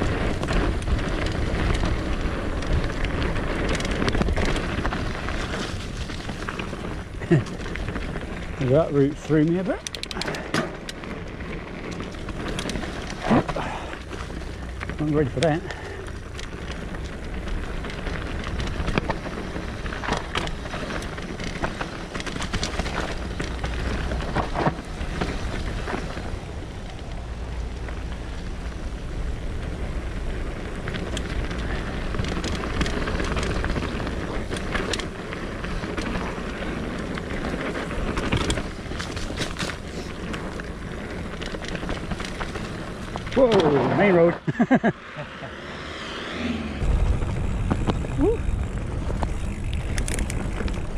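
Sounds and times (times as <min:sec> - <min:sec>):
wind rushing over microphone: 0:00.0 - 0:44.2, 0:44.9 - 0:50.9
bike rattling over bumps: 0:00.0 - 0:50.9
tyres rolling over dirt and leaves: 0:00.0 - 0:50.9.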